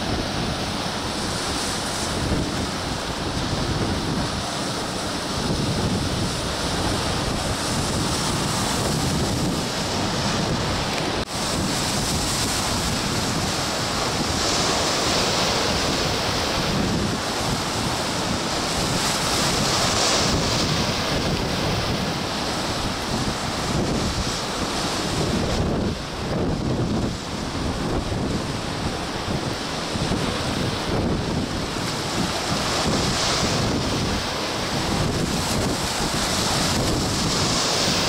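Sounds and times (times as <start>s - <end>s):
waves breaking against rocks: 0.0s - 38.0s
wind buffeting microphone: 0.0s - 38.0s.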